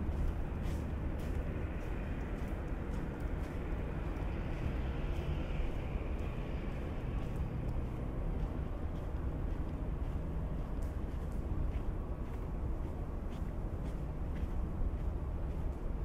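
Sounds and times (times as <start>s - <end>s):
footsteps on snow: 0.0s - 16.0s
low urban rumble: 0.0s - 16.0s.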